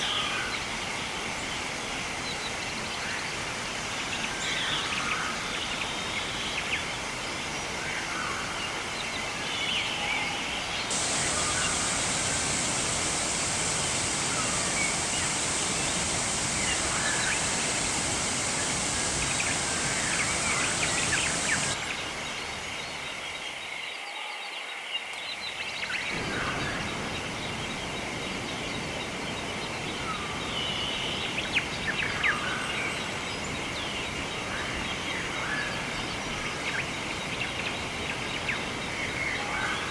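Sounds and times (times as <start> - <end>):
flowing water rushing: 0.0 - 23.6, 25.9 - 39.9
insect drone: 0.0 - 39.9.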